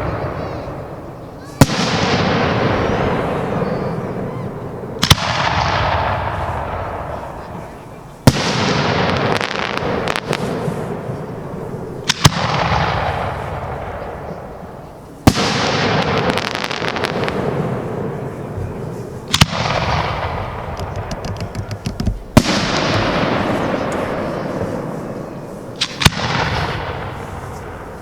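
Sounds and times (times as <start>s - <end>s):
fireworks bangs: 0.0s - 28.0s
fireworks crackle: 0.0s - 28.0s.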